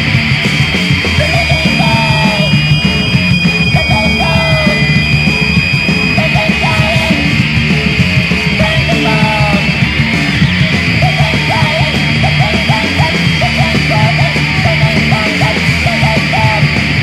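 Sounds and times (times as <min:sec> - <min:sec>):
distorted punk band: 0:00.0 - 0:17.0
high-pitched held tones: 0:00.0 - 0:17.0.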